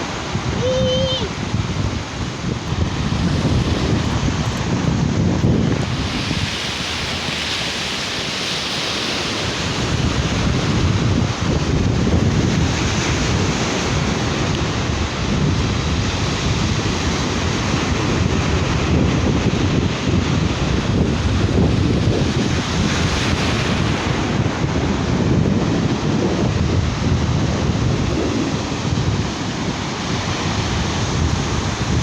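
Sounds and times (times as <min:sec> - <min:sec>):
sea surf breaking: 0:00.0 - 0:32.0
wind buffeting microphone: 0:00.0 - 0:32.0.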